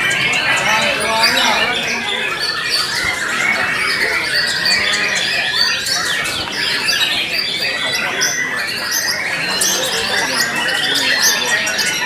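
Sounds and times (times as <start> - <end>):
birds singing whistles: 0.0 - 12.0.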